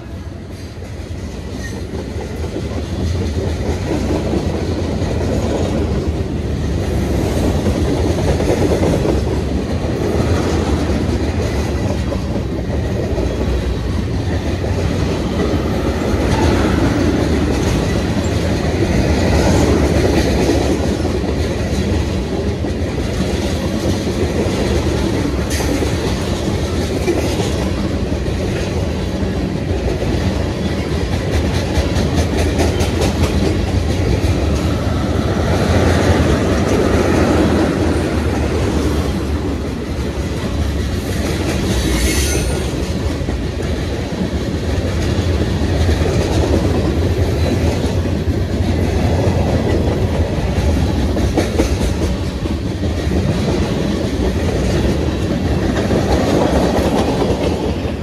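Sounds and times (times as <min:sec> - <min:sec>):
train wheels clattering over rail joints: 0:00.5 - 0:58.0.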